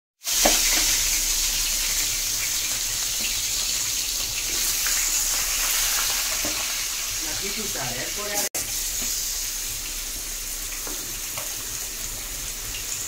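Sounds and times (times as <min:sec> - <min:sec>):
chicken sizzling in hot oil: 0:00.2 - 0:13.0.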